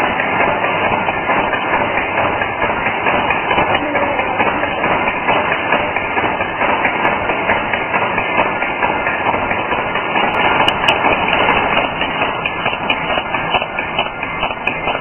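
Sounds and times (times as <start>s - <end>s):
machine mechanical clatter: 0.0s - 15.0s.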